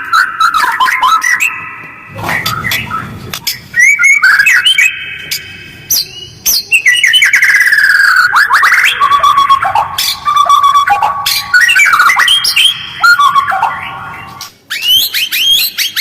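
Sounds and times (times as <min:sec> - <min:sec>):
bird singing fast harsh song: 0:00.0 - 0:16.0.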